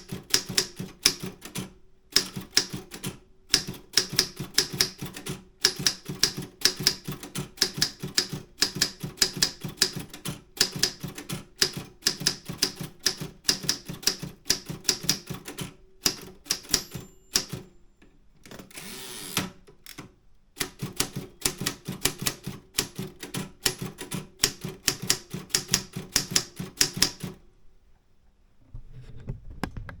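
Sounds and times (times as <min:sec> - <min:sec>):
typewriter typebar clicks: 0:00.0 - 0:17.6, 0:19.3 - 0:27.4.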